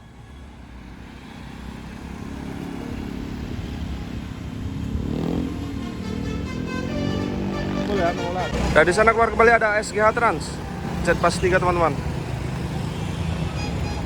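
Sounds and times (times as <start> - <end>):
bus engine approaching: 0.0 - 14.0.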